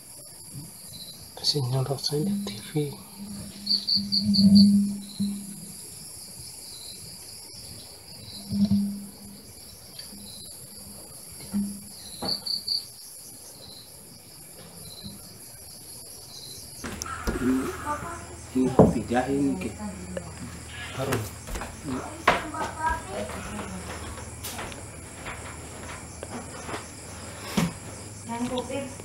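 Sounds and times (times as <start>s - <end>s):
crickets chirping in trills: 0.0s - 29.0s
high-pitched insect drone: 0.0s - 29.0s.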